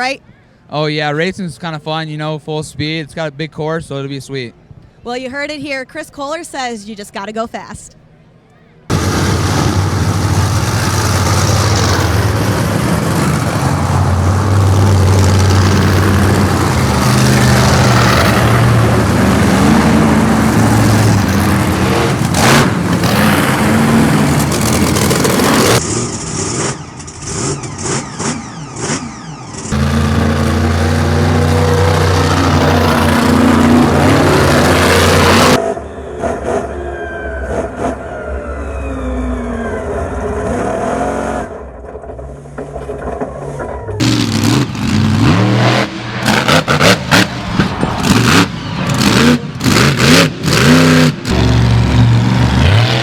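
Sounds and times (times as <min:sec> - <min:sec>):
monster truck engines revving: 0:08.9 - 0:53.0.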